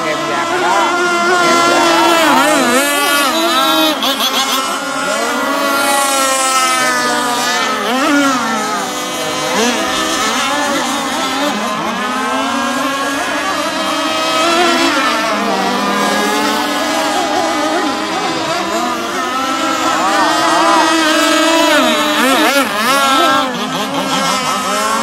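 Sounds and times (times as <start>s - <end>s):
rc boat engines whining: 0.0s - 25.0s.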